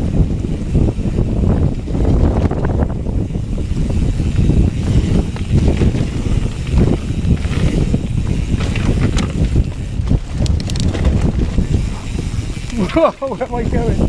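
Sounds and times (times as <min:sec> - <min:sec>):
bike rattles and clicks: 0:00.0 - 0:14.0
bike tyres rumbling on dirt: 0:00.0 - 0:14.0
wind buffeting microphone: 0:00.0 - 0:14.0.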